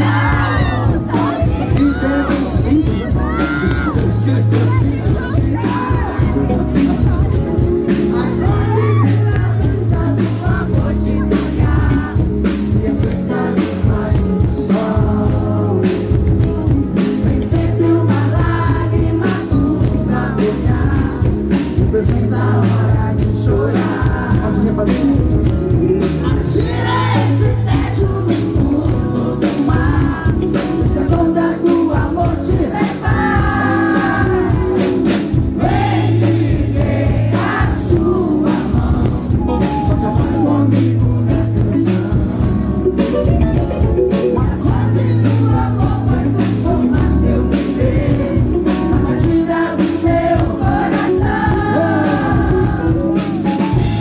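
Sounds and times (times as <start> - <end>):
bass guitar: 0.0 - 54.0
drum kit beat: 0.0 - 54.0
electric guitar: 0.0 - 54.0
man singing into a microphone: 0.0 - 54.0.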